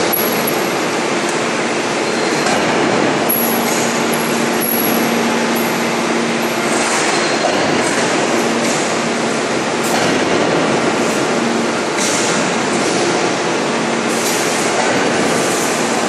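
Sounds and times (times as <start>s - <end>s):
hydraulic press mechanical noise: 0.0s - 16.0s.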